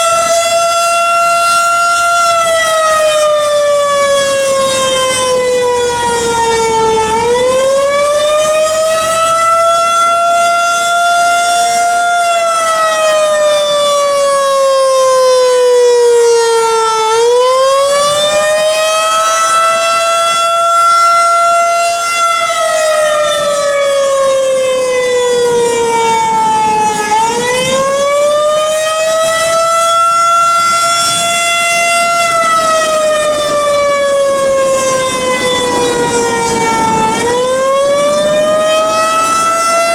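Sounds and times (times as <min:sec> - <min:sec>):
rotating warning siren rising and falling: 0:00.0 - 0:39.9.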